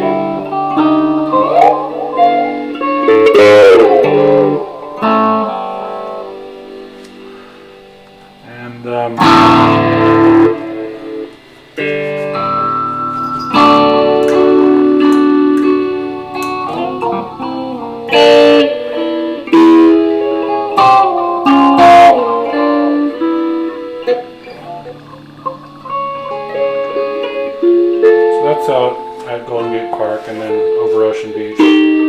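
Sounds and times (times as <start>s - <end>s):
electric guitar chords ringing: 0.0s - 32.0s.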